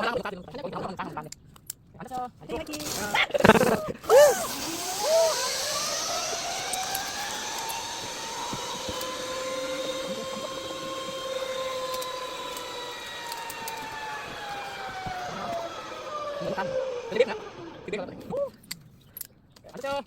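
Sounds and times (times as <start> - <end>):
zipline pulleys whining on cable: 2.7 - 18.8.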